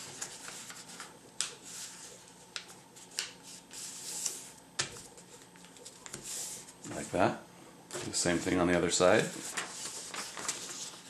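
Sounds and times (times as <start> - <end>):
paper rustling and crinkling: 0.0 - 7.1, 7.9 - 11.0.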